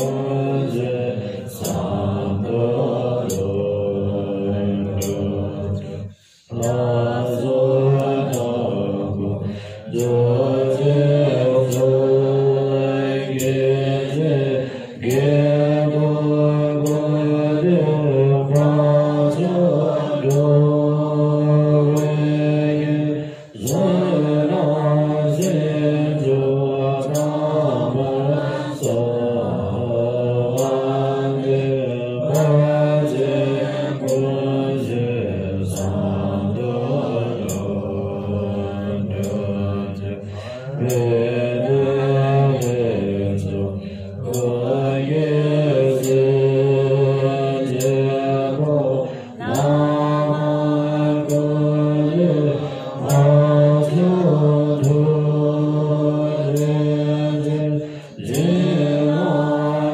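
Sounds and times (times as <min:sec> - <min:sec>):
women chanting prayers in unison: 0:00.0 - 0:59.9.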